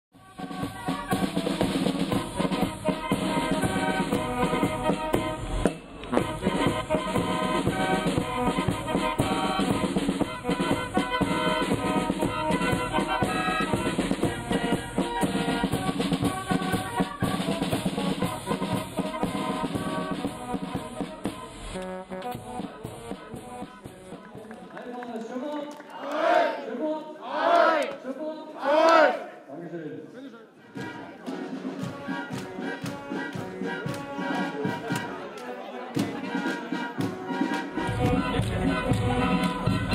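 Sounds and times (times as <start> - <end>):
music with drums: 0.2 - 24.8, 30.7 - 39.9.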